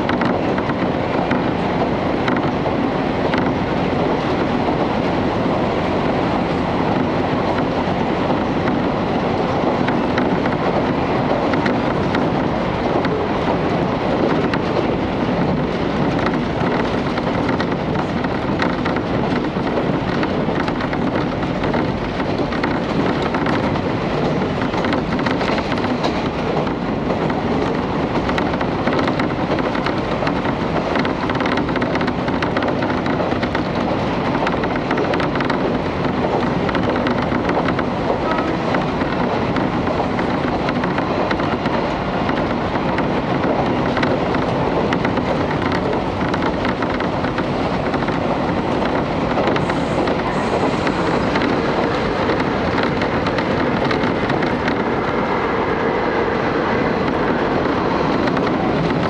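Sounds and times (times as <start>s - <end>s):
railcar running rumble: 0.0s - 59.0s.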